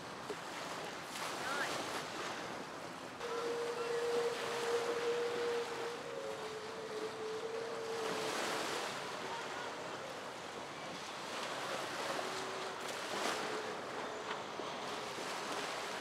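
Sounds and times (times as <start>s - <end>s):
rushing water and spray: 0.0s - 16.0s
faint steady tone: 3.2s - 16.0s.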